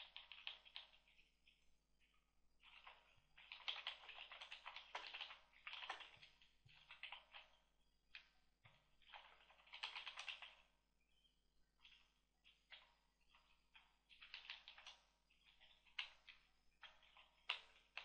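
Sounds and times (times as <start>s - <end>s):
faint keyboard typing: 0.0s - 18.0s.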